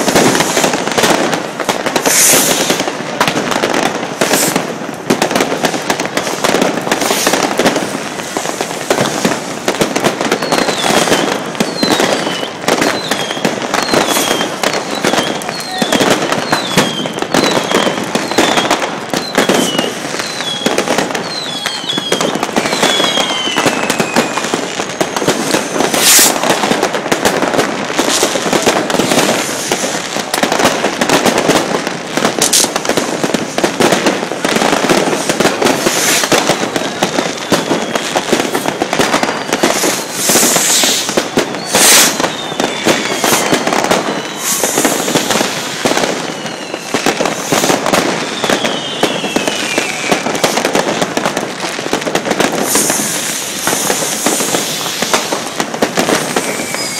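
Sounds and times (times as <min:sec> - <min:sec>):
firework whistles sliding down: 0:00.0 - 0:04.6, 0:06.0 - 0:26.9, 0:27.6 - 0:31.2, 0:34.4 - 0:51.0, 0:52.4 - 0:56.9
firecrackers crackling: 0:00.0 - 0:56.9
firework booms: 0:00.0 - 0:56.9.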